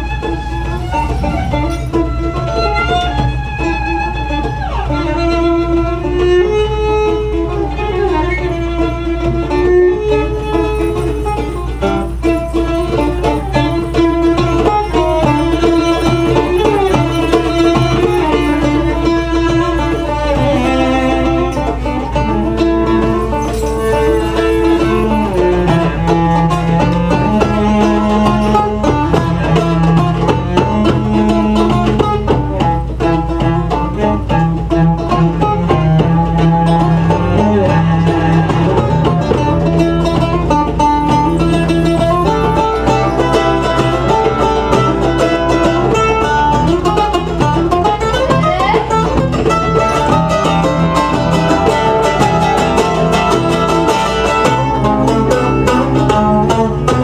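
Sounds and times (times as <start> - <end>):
bowed cello: 0.0 - 57.0
hand drum: 0.0 - 57.0
plucked lute: 0.0 - 57.0.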